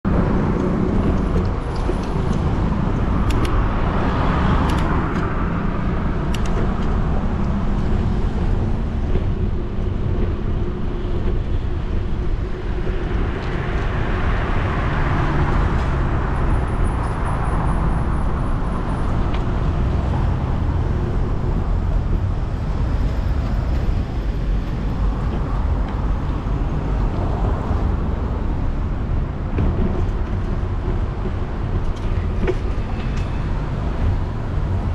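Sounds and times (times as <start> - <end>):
wind rush on microphone: 0.0 - 34.9
cars passing: 0.1 - 34.9.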